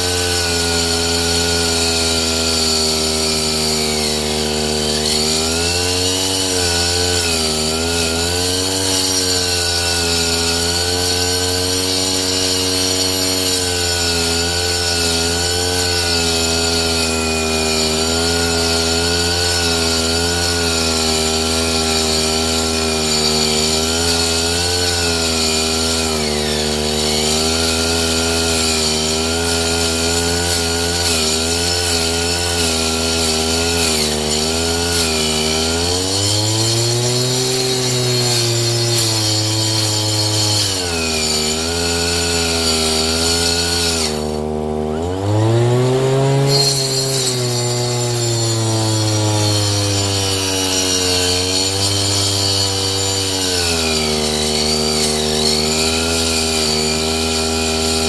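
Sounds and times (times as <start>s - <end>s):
blade ripping wooden strips: 0.0s - 58.0s
brush cutter engine running: 0.0s - 58.0s.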